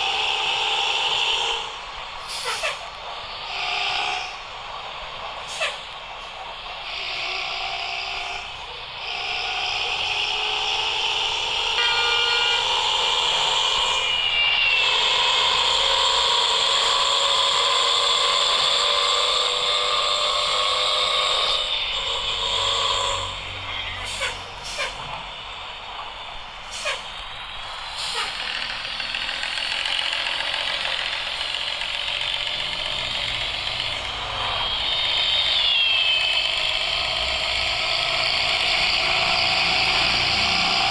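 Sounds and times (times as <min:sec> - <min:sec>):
bus diesel engine: 0:00.0 - 0:14.0, 0:14.7 - 0:40.9.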